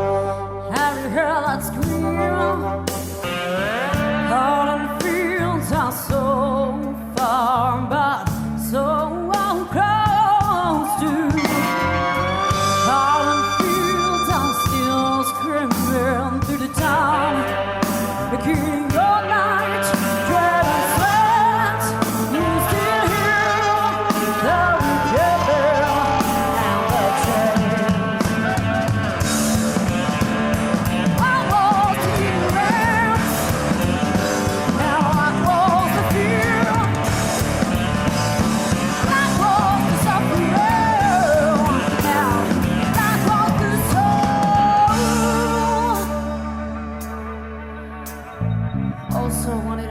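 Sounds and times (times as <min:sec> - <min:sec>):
woman singing with vibrato: 0:00.0 - 0:03.1, 0:04.0 - 0:28.6, 0:30.9 - 0:37.2, 0:38.9 - 0:46.5
live rock band playing: 0:00.0 - 0:49.9.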